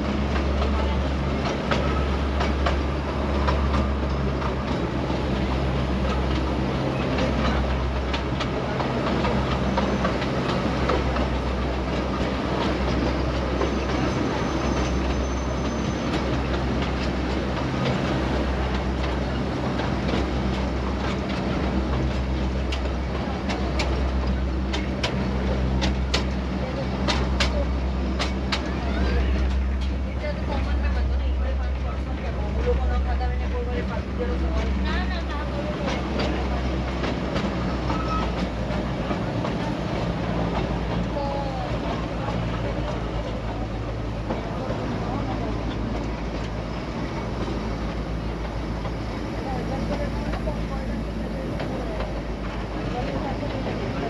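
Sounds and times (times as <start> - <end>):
train low drone: 0.0 - 54.0
train wheels clattering: 0.0 - 54.0
wheels clicking over rail joints: 0.1 - 54.0.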